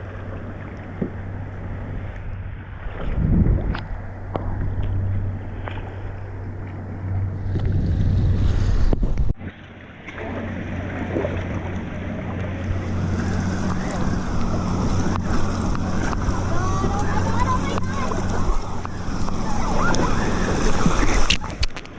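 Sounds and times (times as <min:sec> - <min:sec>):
wind buffeting microphone: 0:00.0 - 0:09.4, 0:10.7 - 0:21.8
steady low rumble: 0:00.0 - 0:21.9
waves sloshing around kayak: 0:00.0 - 0:21.9.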